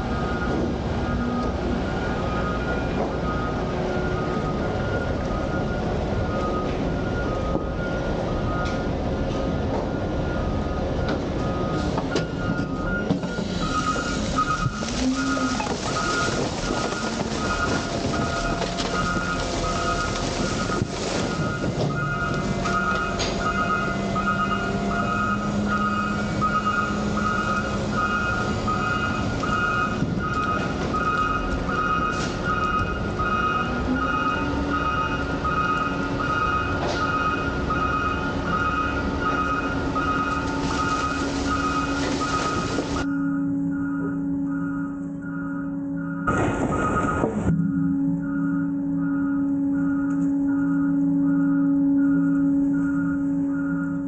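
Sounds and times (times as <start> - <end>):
heavy diesel vehicle running: 0.0 - 54.0
low engine hum: 0.0 - 54.0
reversing alarm beeping: 0.0 - 54.0.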